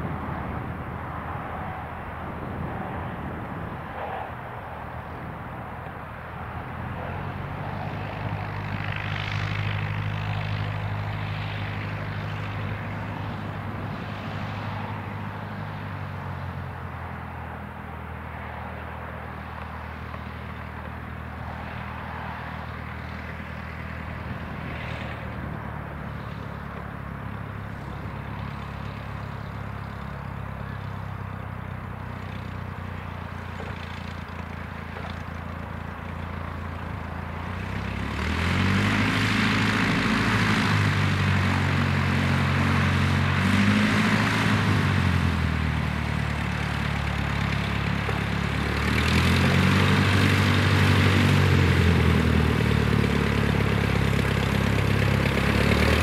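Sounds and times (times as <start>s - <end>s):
light aircraft engine idling: 0.0s - 56.0s.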